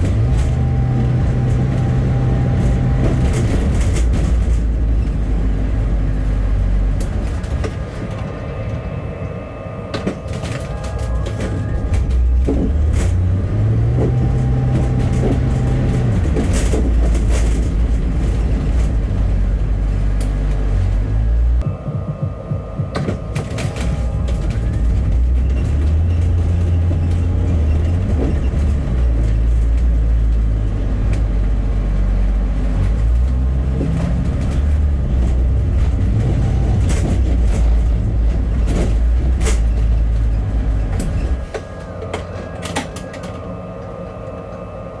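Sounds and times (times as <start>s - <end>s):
rattles and knocks: 0.0s - 8.3s, 9.9s - 21.1s, 21.9s - 43.6s
bus engine rumbling: 0.0s - 45.0s.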